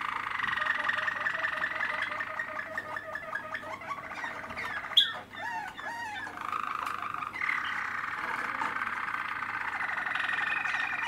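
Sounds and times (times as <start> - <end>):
canary singing trills: 0.0 - 11.0.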